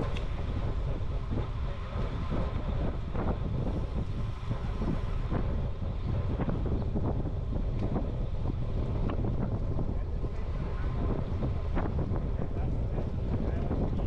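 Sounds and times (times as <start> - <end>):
tyres rumbling on road: 0.0 - 14.0
wind buffeting microphone: 0.0 - 14.0.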